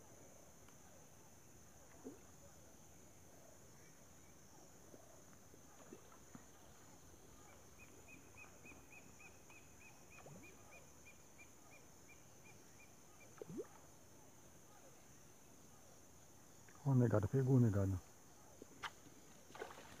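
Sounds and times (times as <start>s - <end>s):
faint chirps: 0.0s - 20.0s.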